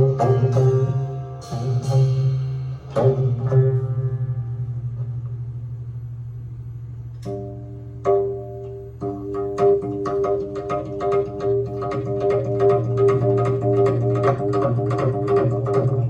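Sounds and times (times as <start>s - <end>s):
plucked zither duet music: 0.0s - 16.0s.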